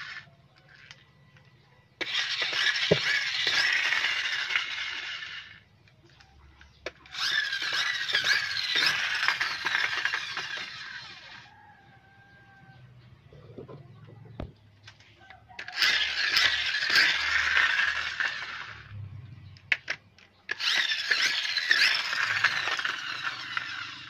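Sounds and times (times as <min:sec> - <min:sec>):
toy cars hitting plastic figures: 0:00.0 - 0:11.5, 0:14.4 - 0:18.9, 0:19.5 - 0:24.0
toy cars whirring: 0:00.0 - 0:13.0, 0:13.6 - 0:24.0.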